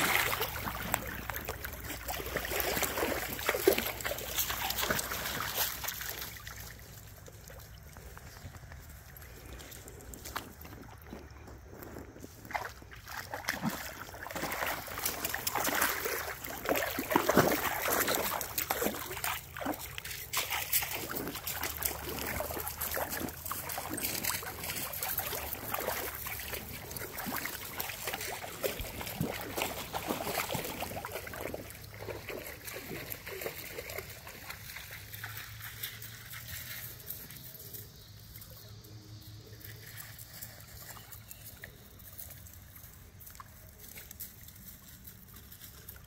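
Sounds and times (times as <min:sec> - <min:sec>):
dog wading through water: 0:00.0 - 0:46.0.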